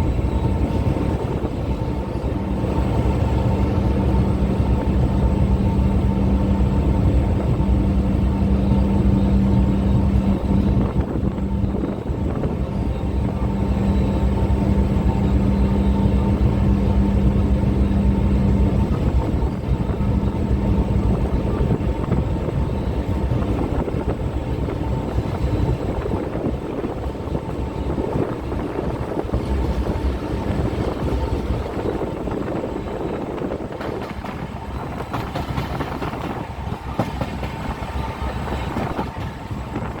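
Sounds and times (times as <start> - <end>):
steady low hum: 0.0 - 40.0
train rumble and rail clatter: 0.0 - 40.0.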